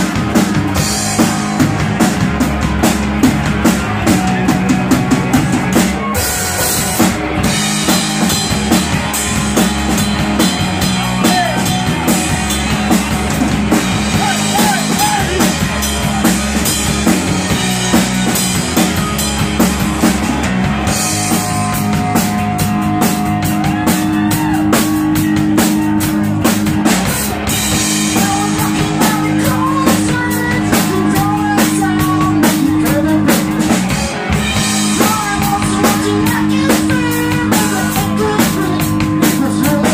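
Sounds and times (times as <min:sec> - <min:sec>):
drum kit beat: 0:00.0 - 0:39.9.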